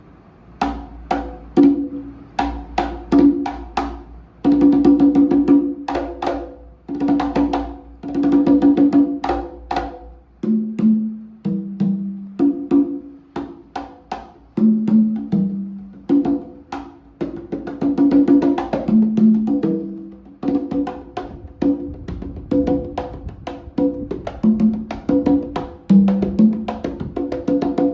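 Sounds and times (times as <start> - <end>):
congas played by hand: 0.6 - 27.9.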